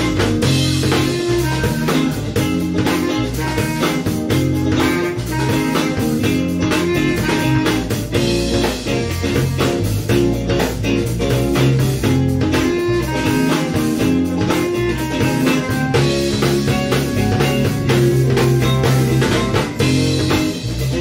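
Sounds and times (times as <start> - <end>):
drum kit beat: 0.0 - 21.0
electric guitar: 0.0 - 21.0.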